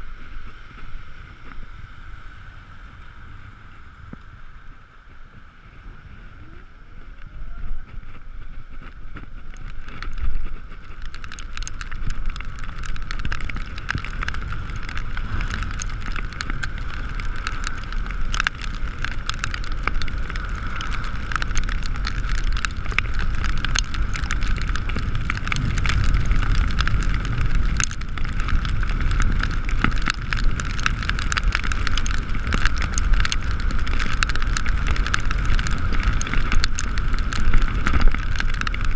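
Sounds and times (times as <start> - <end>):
tyre noise on wet road: 0.0 - 38.9
wind noise: 0.0 - 38.9
raindrop ticks: 6.4 - 38.9.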